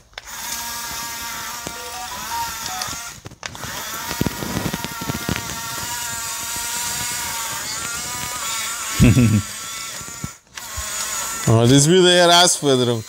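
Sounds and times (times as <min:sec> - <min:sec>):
toy bulldozer motors whining: 0:00.0 - 0:13.0.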